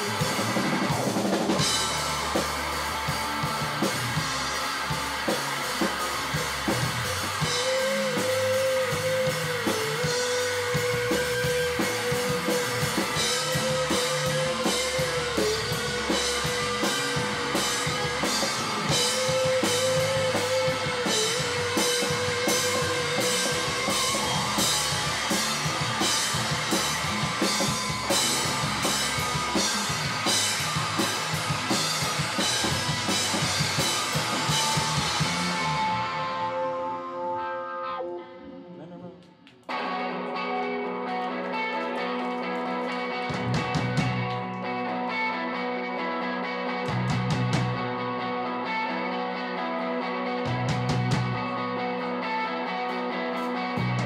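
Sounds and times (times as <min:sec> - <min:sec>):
rock band playing: 0:00.0 - 0:38.8, 0:39.6 - 0:54.0.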